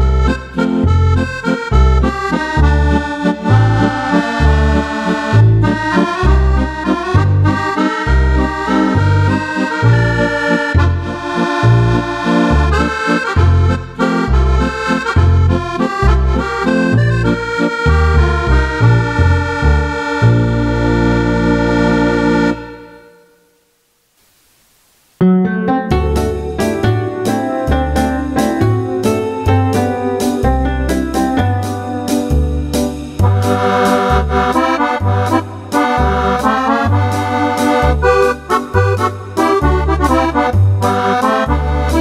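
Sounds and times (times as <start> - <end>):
accordion playing lively tune: 0.0 - 23.3, 25.9 - 42.0.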